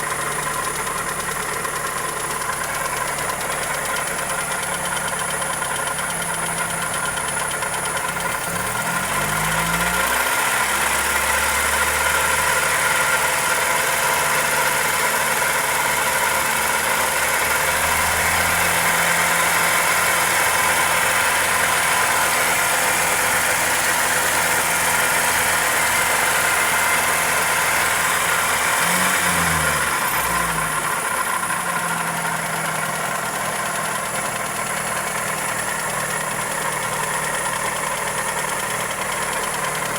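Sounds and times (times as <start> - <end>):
engine running with ticking knock: 0.0 - 39.9.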